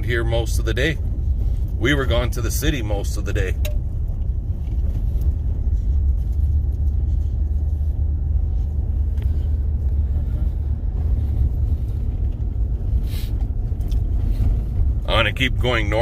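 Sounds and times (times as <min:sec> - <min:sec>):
vehicle driving on gravel: 0:00.0 - 0:16.0.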